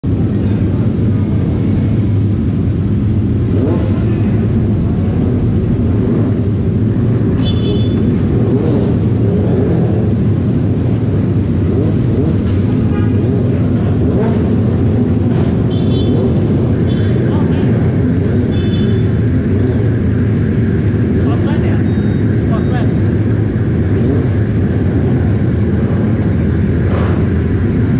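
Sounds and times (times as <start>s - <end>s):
motorcycle engines droning: 0.0s - 27.9s.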